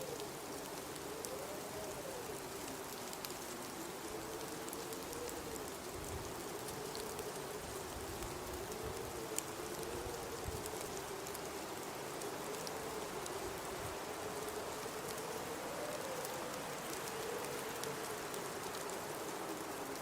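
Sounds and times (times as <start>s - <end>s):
faint ticks: 0.0s - 20.0s
hiss of wind and blowing snow: 0.0s - 20.0s.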